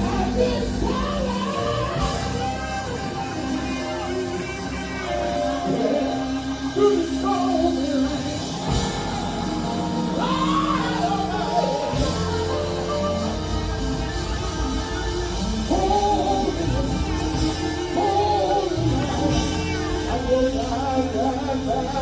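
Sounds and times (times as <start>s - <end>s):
gospel quartet singing: 0.0s - 22.0s
live backing band: 0.0s - 22.0s.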